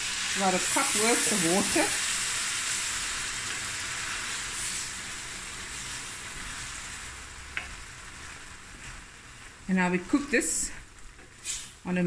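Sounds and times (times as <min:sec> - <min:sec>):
mince sizzling in a pan: 0:00.0 - 0:12.0.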